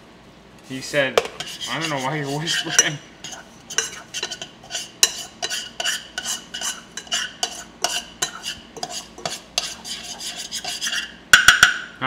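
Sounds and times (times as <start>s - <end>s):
metal spoon scraping saucepan: 1.2s - 11.2s.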